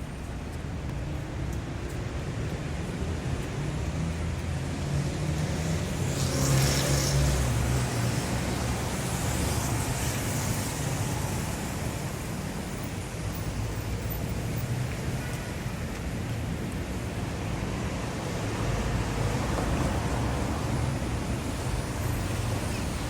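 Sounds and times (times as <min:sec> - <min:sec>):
road and tyre noise: 0:00.0 - 0:23.0.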